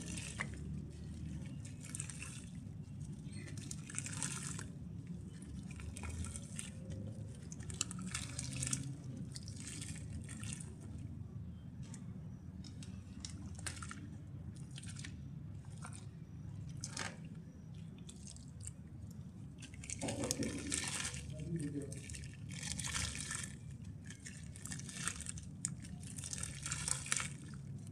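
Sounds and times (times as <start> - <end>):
mud crumbling in water: 0.0 - 27.9
small crackles and drips: 0.0 - 27.9.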